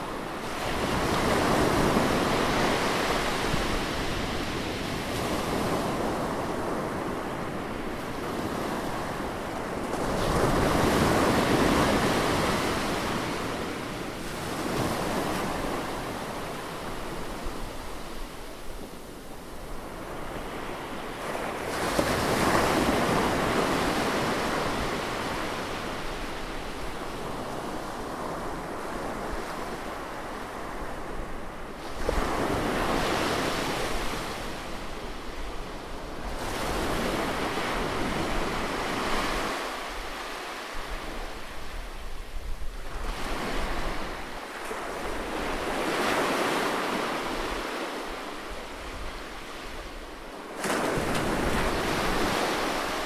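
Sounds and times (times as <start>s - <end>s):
sea waves breaking on shore: 0.0s - 53.0s.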